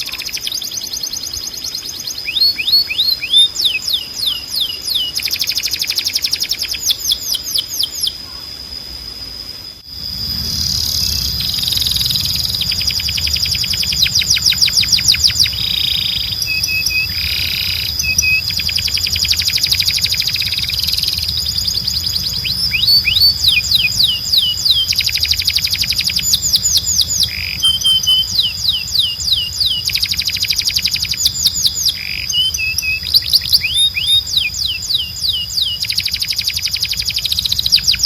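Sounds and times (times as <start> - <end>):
canary singing trills: 0.0 - 38.0
low background hum: 0.0 - 38.0.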